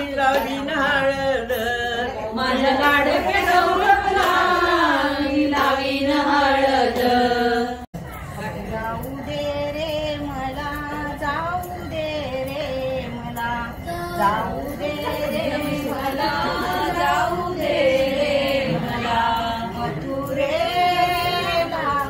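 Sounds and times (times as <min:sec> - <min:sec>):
women singing a slow melody: 0:00.0 - 0:22.0.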